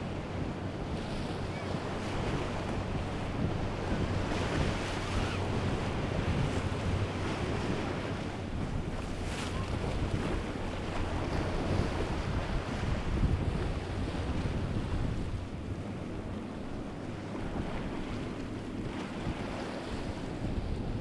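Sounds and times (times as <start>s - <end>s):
boat engines humming: 0.0s - 21.0s
rushing wake and surf: 0.0s - 21.0s
wind buffeting microphone: 0.0s - 21.0s.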